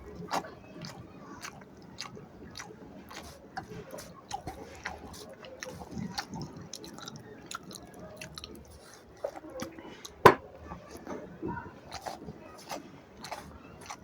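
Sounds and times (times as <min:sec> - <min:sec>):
person chewing food: 0:00.1 - 0:10.4, 0:11.8 - 0:14.0.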